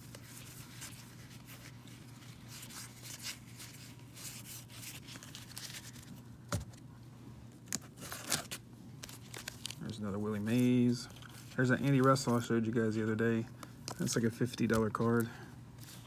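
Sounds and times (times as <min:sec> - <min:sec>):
trading cards rustling: 0:00.0 - 0:06.8, 0:07.6 - 0:16.0.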